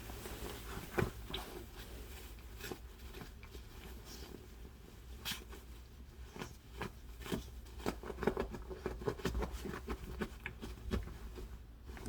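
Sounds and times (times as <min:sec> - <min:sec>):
dog paws scratching and tapping: 0:00.0 - 0:12.0.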